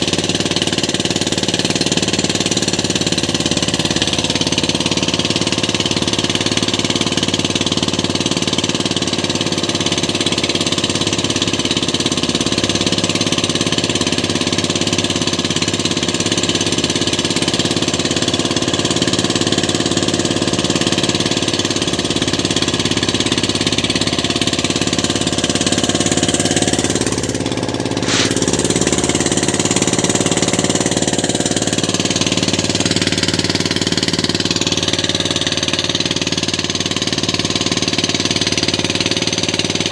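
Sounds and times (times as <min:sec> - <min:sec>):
boat engine knocking: 0:00.0 - 0:39.9.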